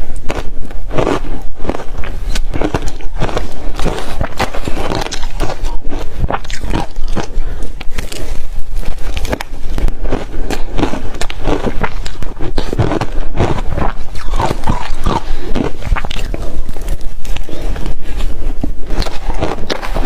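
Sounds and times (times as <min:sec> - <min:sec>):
chewing crunchy ice: 0:00.2 - 0:20.0.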